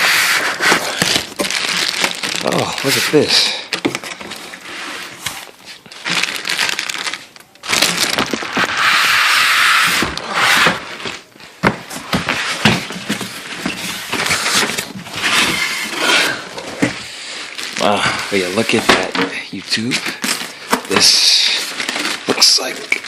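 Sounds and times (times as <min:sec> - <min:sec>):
packaging rustling and scraping: 0:00.0 - 0:23.0.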